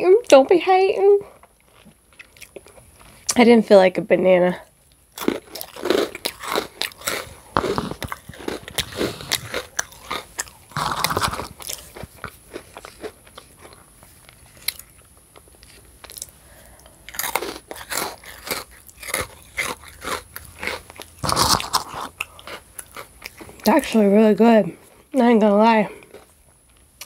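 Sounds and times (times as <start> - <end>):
crunching and chewing crackers: 1.3 - 3.4, 4.6 - 23.9, 25.9 - 27.0.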